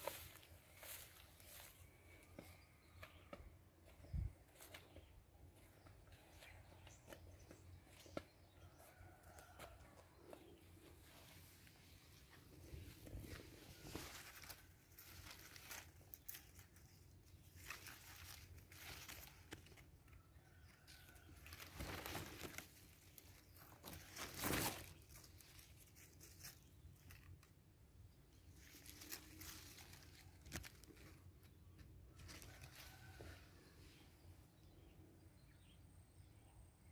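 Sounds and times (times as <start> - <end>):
leaves rustling and crinkling: 0.0 - 7.2, 7.8 - 34.0.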